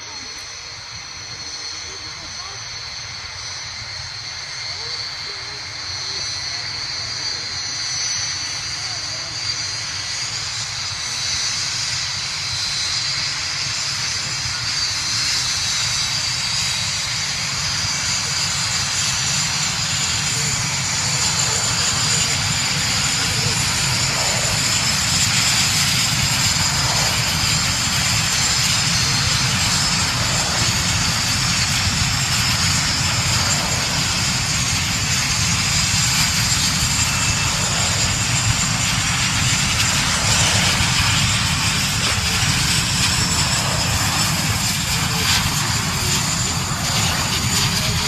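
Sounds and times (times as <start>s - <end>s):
jet engines whining: 0.0s - 48.0s.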